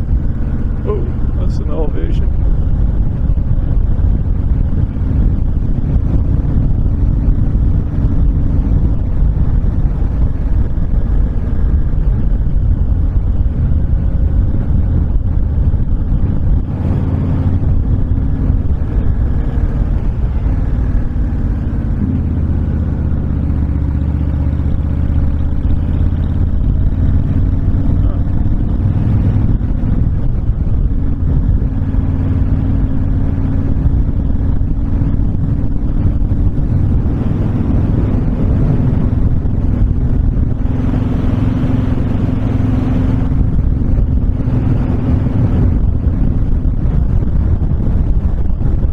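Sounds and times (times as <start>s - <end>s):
motorcycle engine running: 0.0s - 48.9s
wind rush: 0.0s - 48.9s.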